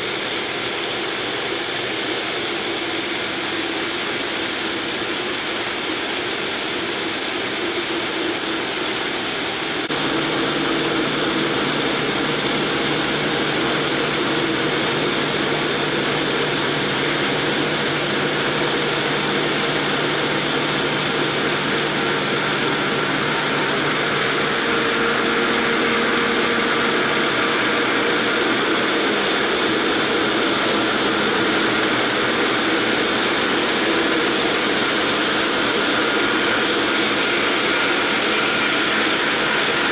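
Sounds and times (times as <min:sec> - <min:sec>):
machine hum: 0:00.0 - 0:39.9
lower machine hum: 0:00.2 - 0:39.9.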